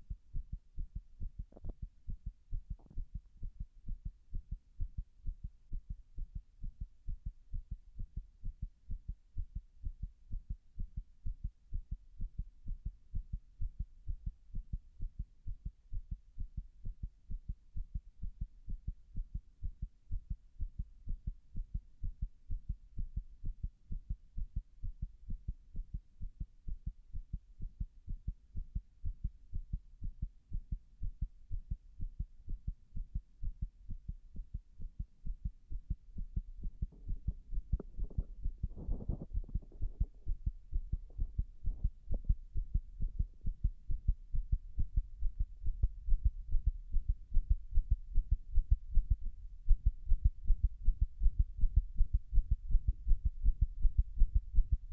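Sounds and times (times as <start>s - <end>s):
low thudding heartbeat: 0.0s - 54.9s.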